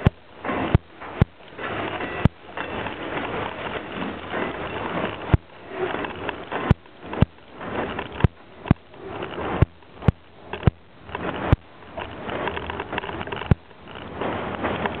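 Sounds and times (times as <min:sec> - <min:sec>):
bicycle rolling noise: 0:00.0 - 0:15.0.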